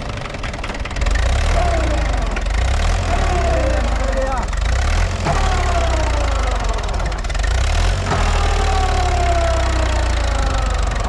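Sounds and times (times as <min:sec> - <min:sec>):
tractor diesel engine rumbling: 0:00.0 - 0:11.0.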